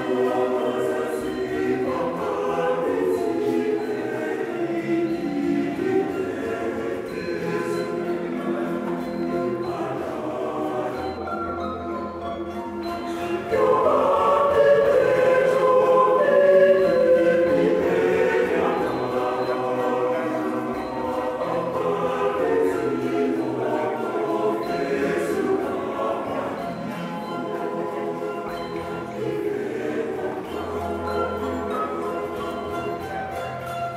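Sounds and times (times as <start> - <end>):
mixed choir singing in harmony: 0.0 - 33.9.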